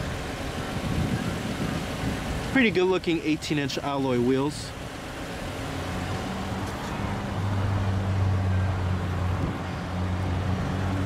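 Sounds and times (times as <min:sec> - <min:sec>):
car engine idling: 0:00.0 - 0:11.0
faint outdoor hiss: 0:00.0 - 0:11.0.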